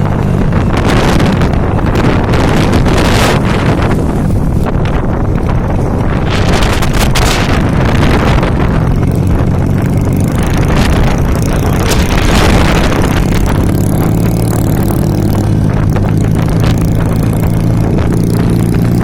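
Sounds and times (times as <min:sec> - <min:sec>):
low engine hum: 0:00.0 - 0:19.0
wind buffeting microphone: 0:00.0 - 0:19.0.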